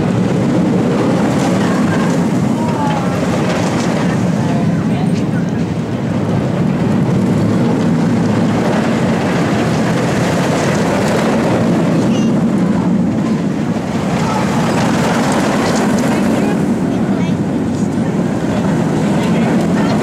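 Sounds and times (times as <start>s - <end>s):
roller coaster wheels rumbling: 0.0s - 20.0s.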